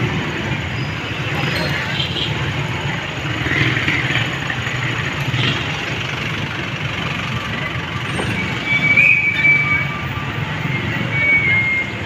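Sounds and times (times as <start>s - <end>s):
traffic engine rumble: 0.0s - 12.0s
vehicles passing: 0.0s - 12.0s.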